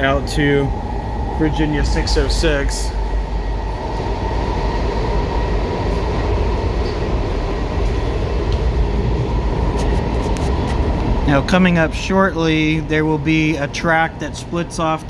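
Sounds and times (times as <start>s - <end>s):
thin steady whine: 0.0s - 15.0s
train wheels rumbling on track: 0.0s - 15.0s.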